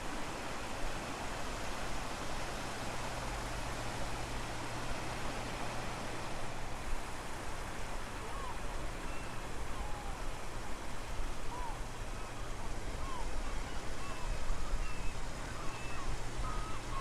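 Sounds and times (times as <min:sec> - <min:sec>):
sea at low tide: 0:00.0 - 0:17.0.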